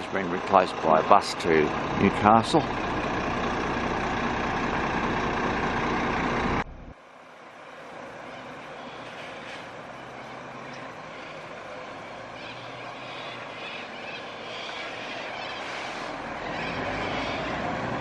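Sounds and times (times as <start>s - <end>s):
bus engine running: 0.0s - 18.0s
distant vehicle rumble: 0.0s - 18.0s.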